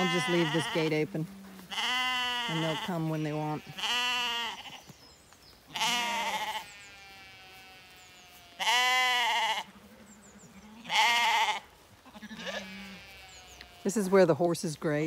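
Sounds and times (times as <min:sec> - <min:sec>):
lambs bleating: 0:00.0 - 0:04.9, 0:05.7 - 0:14.2.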